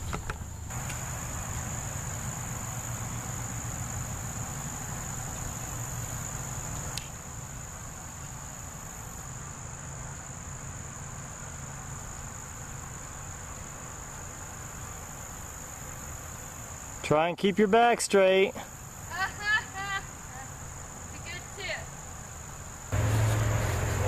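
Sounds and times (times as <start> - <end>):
insect chorus trilling: 0.1 - 24.0.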